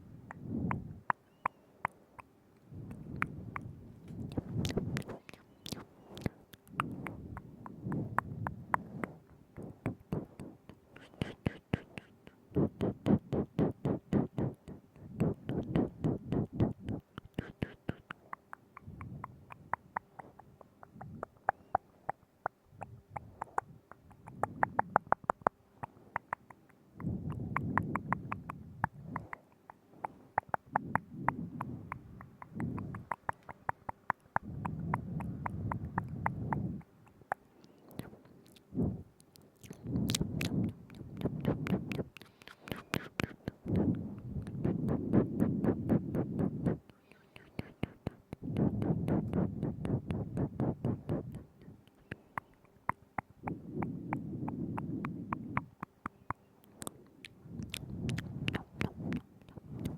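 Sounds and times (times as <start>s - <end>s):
wet mouth clicks and smacks: 0.2s - 59.9s.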